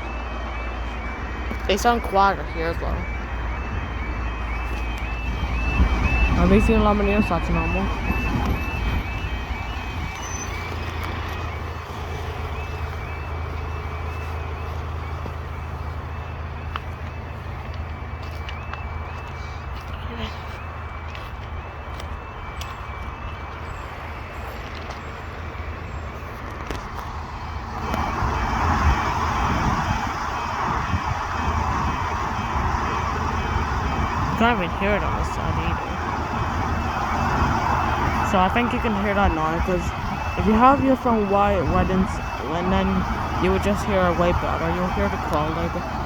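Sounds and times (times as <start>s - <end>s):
level crossing warning alarm: 0.0s - 46.0s
road vehicle passing: 0.0s - 46.0s.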